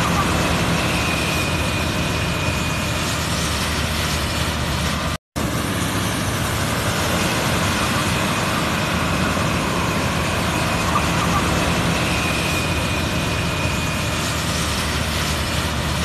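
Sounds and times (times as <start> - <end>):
harvester engine and machinery running: 0.0 - 16.0.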